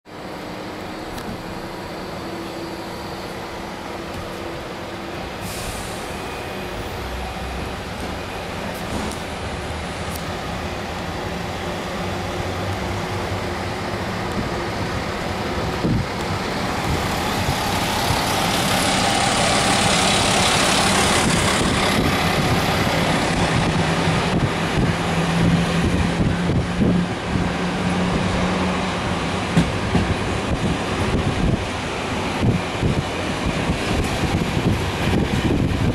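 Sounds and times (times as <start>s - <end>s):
train wheels rumbling on rails: 0.1s - 35.9s.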